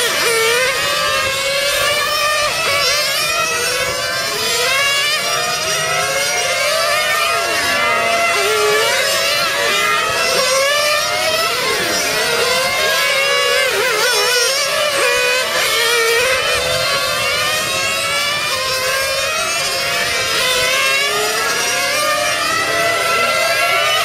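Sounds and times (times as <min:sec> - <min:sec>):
rc car engines revving: 0:00.0 - 0:24.0.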